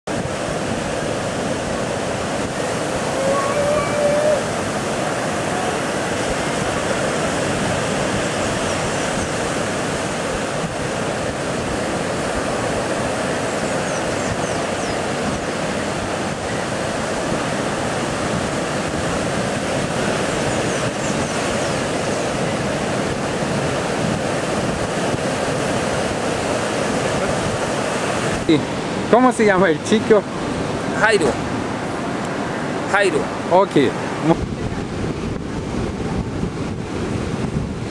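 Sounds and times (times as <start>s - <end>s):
ocean surf breaking: 0.1s - 37.9s.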